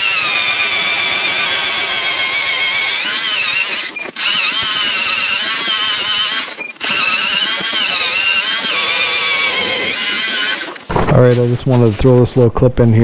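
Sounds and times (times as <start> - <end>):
electric ice auger whining: 0.0 - 10.9.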